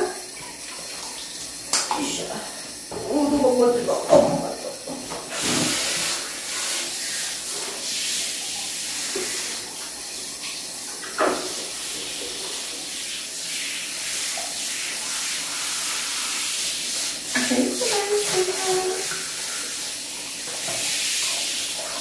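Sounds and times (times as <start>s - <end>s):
shower head spraying water: 0.0s - 22.0s.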